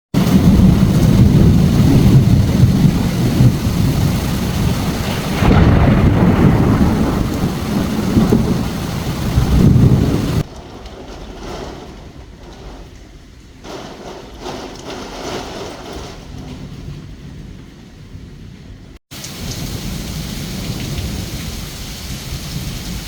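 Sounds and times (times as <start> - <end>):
thunder rumbling: 0.1 - 23.0
heavy rain: 0.2 - 23.0.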